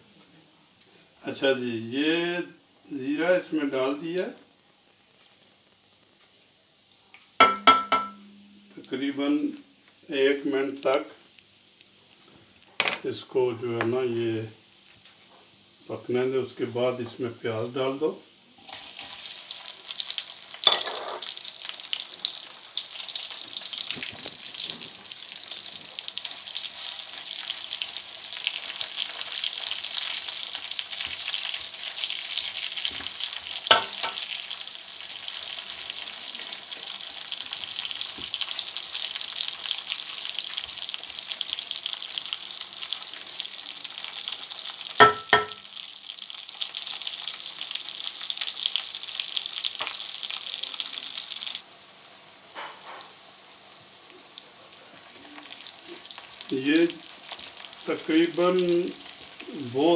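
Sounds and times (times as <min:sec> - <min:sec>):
onions sizzling in hot oil: 0:00.0 - 0:59.9.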